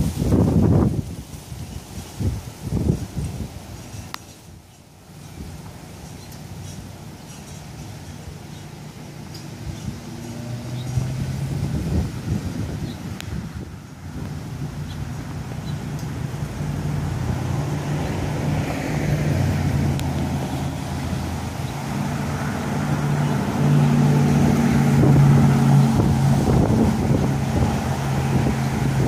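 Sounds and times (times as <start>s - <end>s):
vehicles passing on street: 0.0s - 29.0s.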